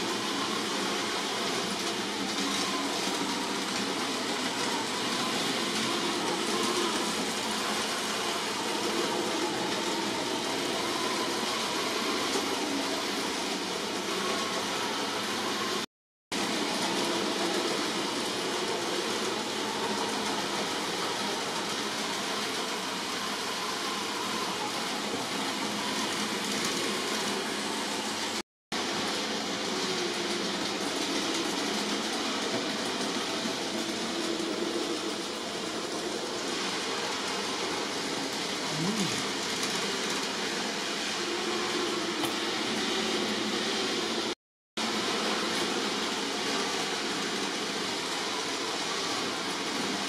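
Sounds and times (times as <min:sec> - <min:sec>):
model train running on track: 0:00.0 - 0:50.0.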